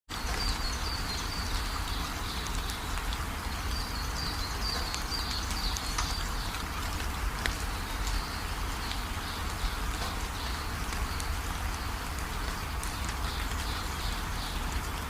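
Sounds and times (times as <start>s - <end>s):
steady rain falling: 0.1s - 15.0s.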